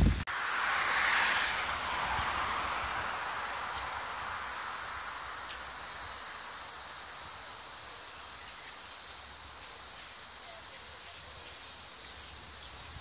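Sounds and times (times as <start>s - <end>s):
leaves rustling: 0.0s - 13.0s
insect chorus buzzing: 0.3s - 13.0s.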